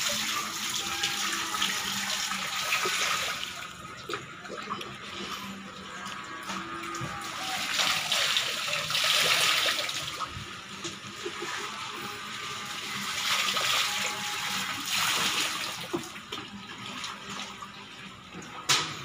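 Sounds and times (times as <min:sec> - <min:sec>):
water trickling: 0:00.0 - 0:18.6
water pouring and splashing: 0:00.0 - 0:19.0.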